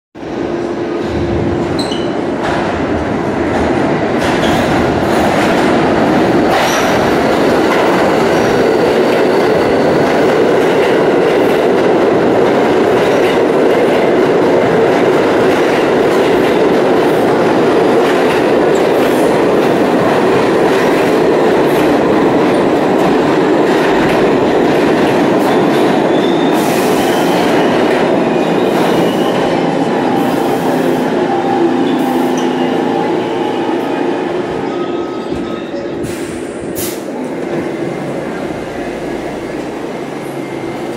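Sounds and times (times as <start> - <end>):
subway train wheels rumbling: 0.2 - 40.9.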